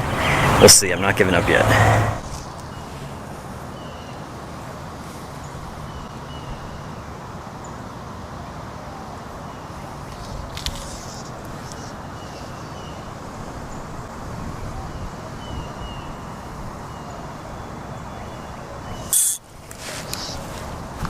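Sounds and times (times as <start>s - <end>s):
low rumbling outdoor noise: 0.0s - 21.0s.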